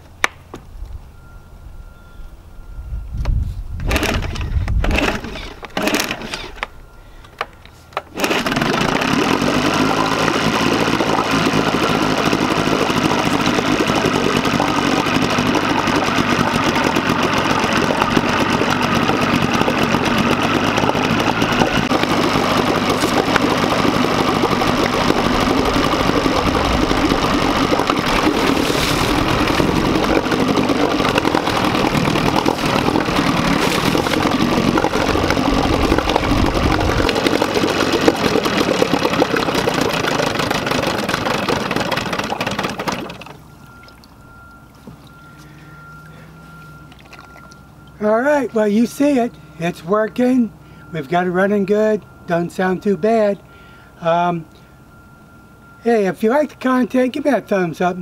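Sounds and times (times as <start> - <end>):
outboard motor running: 3.8 - 54.7.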